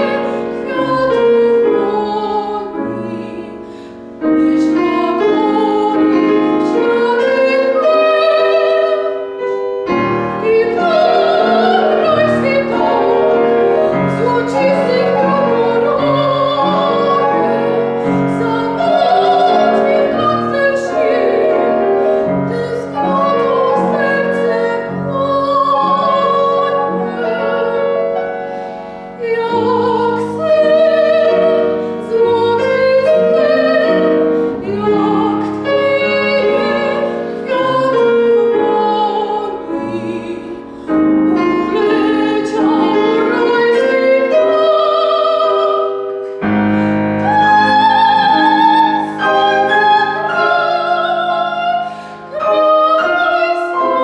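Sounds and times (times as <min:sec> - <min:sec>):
soprano singing operatically: 0:00.0 - 0:28.4, 0:29.0 - 0:54.0
grand piano: 0:00.0 - 0:54.0.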